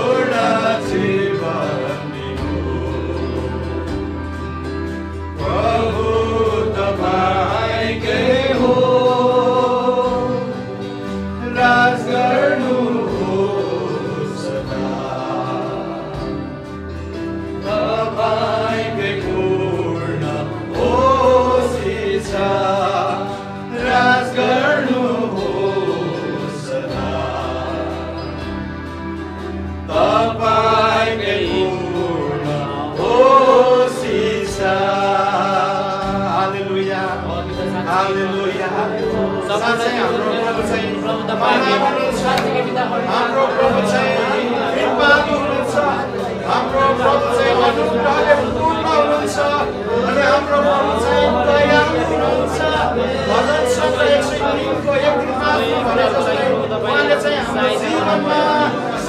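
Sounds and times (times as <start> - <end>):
man singing into a microphone: 0.0 - 4.4, 5.3 - 16.9, 17.6 - 29.1, 29.9 - 59.0
group of voices singing: 0.0 - 59.0
rock band playing: 0.0 - 59.0.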